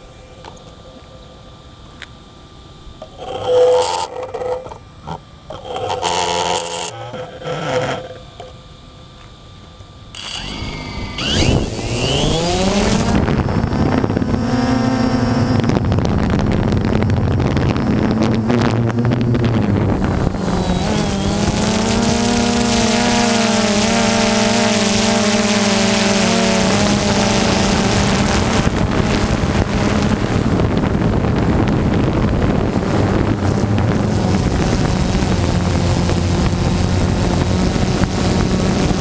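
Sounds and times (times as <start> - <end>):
drone propeller buzz: 2.8 - 8.8, 10.1 - 39.0
drone motors whining: 3.0 - 8.6, 10.1 - 39.0.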